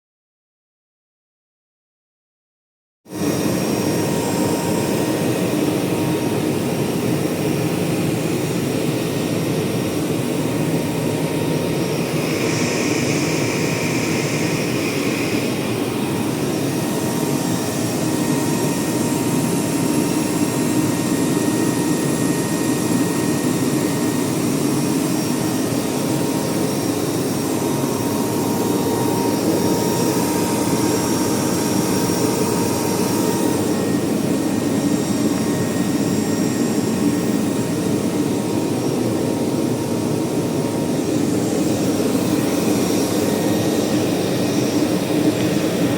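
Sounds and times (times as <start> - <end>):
machinery rushing air noise: 3.1 - 45.9.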